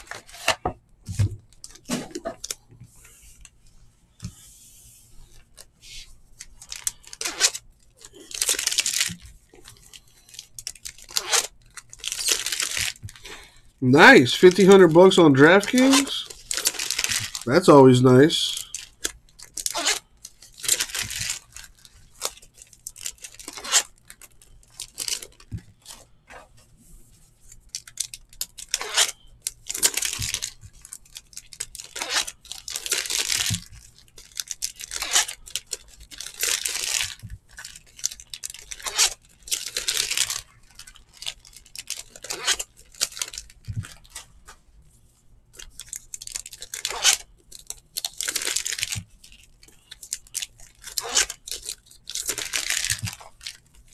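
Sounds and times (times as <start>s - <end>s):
wrappers tearing and crinkling: 0.0s - 2.6s, 5.2s - 26.5s, 27.3s - 44.6s, 45.5s - 53.9s.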